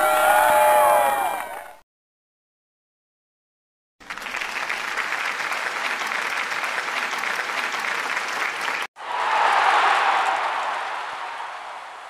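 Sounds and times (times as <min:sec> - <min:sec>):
crowd applauding: 0:00.0 - 0:01.8, 0:04.0 - 0:12.0.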